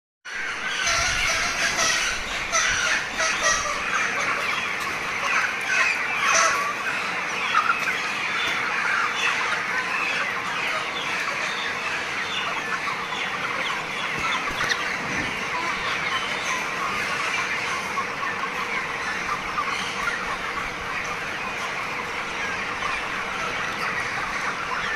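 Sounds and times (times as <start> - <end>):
chickens chirping and clucking: 0.3 - 24.9.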